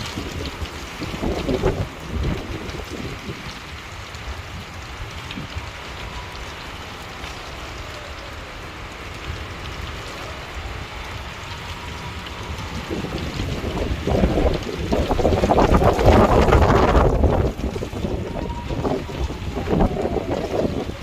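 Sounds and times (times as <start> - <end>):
rain falling: 0.0 - 21.0
wind rumble on microphone: 0.0 - 21.0.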